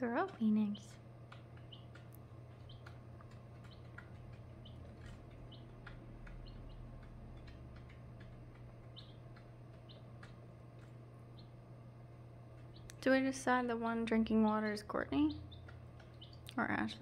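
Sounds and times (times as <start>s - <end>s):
steady low hum: 0.0s - 17.0s
chicks peeping: 0.2s - 13.1s, 14.3s - 17.0s.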